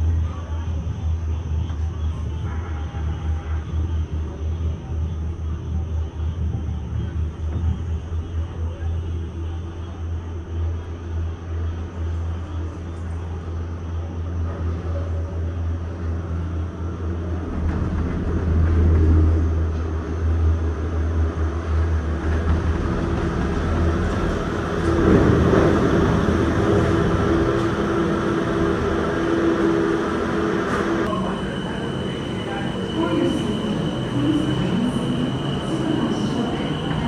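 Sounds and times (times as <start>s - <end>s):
gondola cabin hum and rumble: 0.0s - 37.0s.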